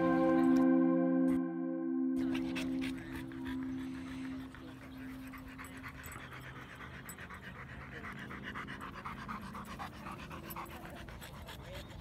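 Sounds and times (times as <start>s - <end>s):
dog panting: 2.2s - 12.0s.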